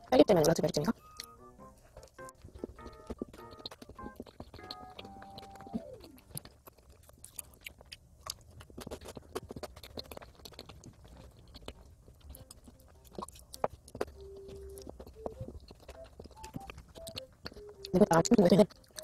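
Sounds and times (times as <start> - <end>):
chewing crispy pastry: 0.0 - 19.0.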